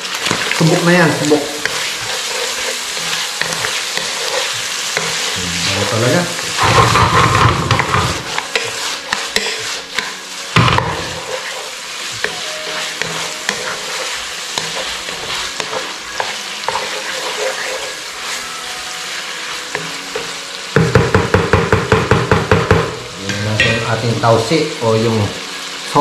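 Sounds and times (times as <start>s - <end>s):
wooden spatula scraping a pan: 0.0s - 21.1s
meat sizzling in a frying pan: 0.0s - 26.0s.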